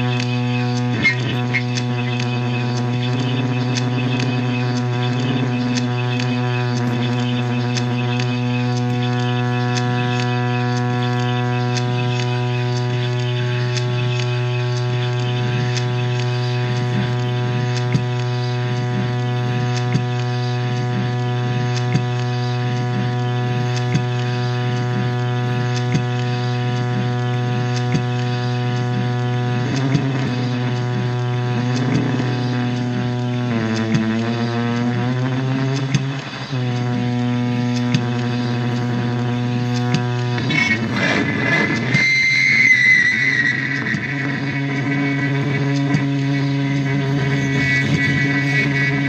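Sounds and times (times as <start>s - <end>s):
loud droning noise music: 0.0s - 49.0s.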